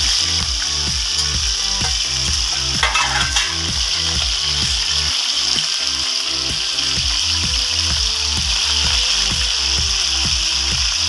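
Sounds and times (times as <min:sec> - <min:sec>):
background music with steady beat: 0:00.0 - 0:11.0
meat sizzling in hot oil: 0:00.0 - 0:11.0.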